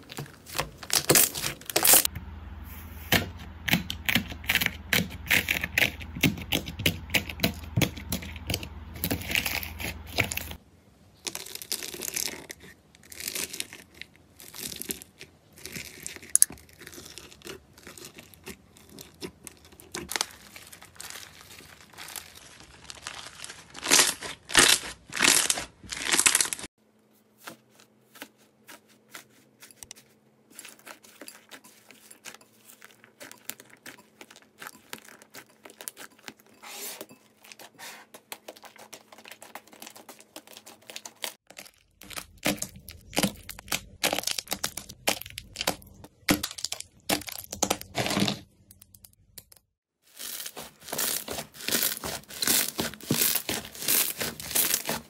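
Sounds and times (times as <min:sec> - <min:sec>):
slime crackling and crunching: 0:00.0 - 0:10.6, 0:11.2 - 0:26.8, 0:30.5 - 0:36.6, 0:38.3 - 0:49.2, 0:50.0 - 0:55.0.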